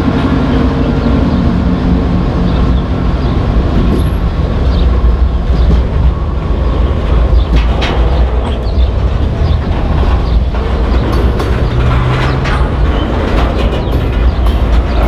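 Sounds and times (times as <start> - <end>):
diesel locomotive engine drone: 0.0 - 15.0
freight cars rumbling on rails: 0.0 - 15.0.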